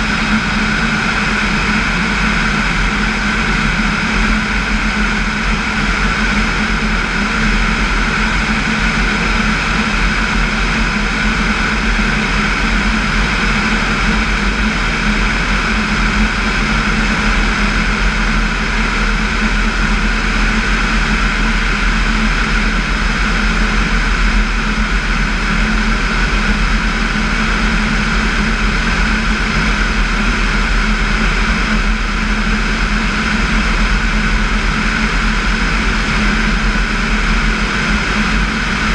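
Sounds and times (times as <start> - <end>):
light airplane engine droning: 0.0 - 38.9.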